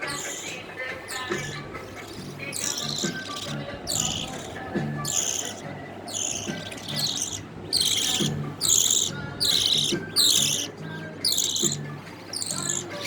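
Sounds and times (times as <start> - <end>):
bird chicks begging calls: 0.0 - 13.0.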